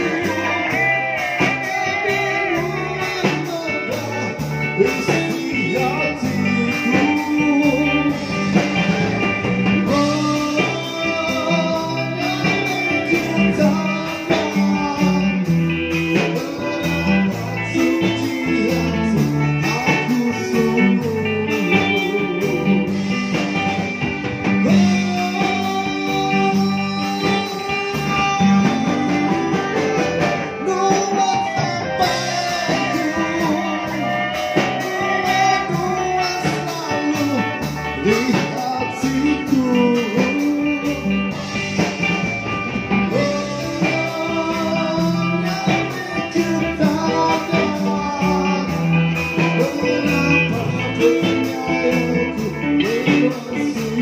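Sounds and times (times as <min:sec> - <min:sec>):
man singing: 0:00.0 - 0:54.0
rock band playing: 0:00.0 - 0:54.0.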